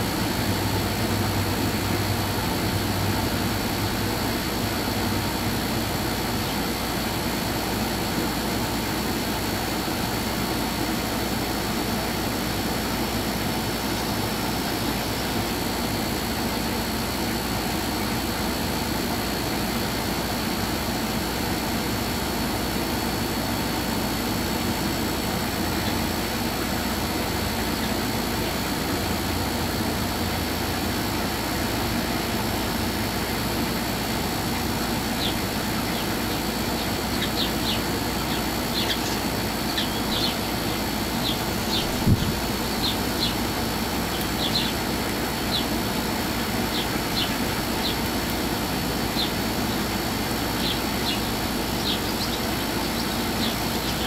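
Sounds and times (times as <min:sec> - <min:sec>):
mechanical drone with low hum: 0:00.0 - 0:54.0.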